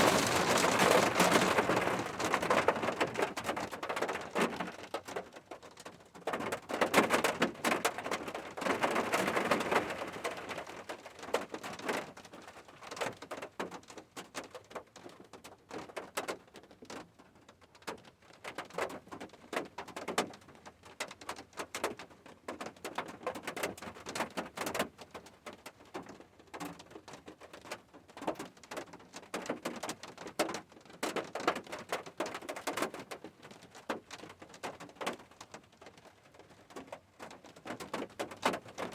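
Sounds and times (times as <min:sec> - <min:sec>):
rain dripping and pattering: 0:00.0 - 0:38.9.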